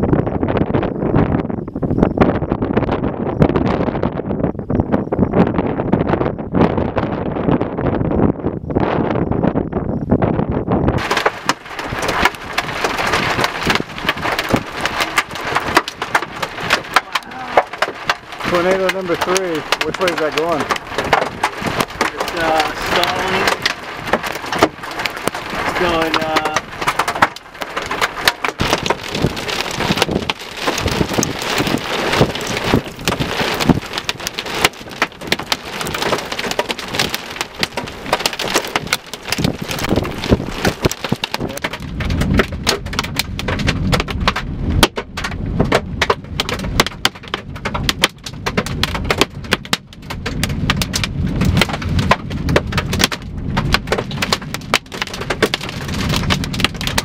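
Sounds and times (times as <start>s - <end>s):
low rumble: 0.0s - 48.9s
heavy rain pattering: 11.0s - 57.0s.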